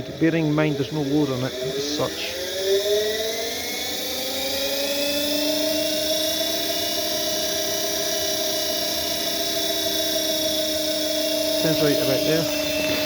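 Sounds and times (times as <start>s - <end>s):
washing machine motor whining: 0.0s - 13.0s.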